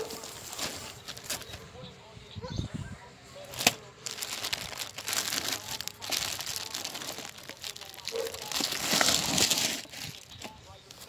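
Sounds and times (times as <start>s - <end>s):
plastic wrapping rustling: 0.0s - 1.7s, 3.4s - 11.0s.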